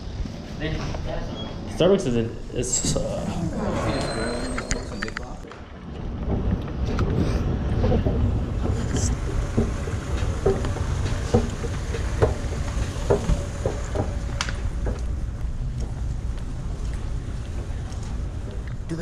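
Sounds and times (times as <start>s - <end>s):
escalator rumbling: 0.0s - 19.0s.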